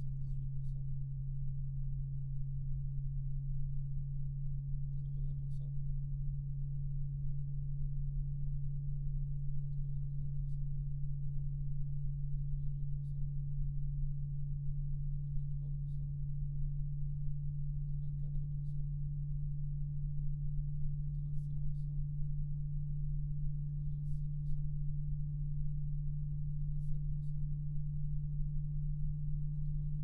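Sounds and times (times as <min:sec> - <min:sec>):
computer fan hum: 0:00.0 - 0:30.0.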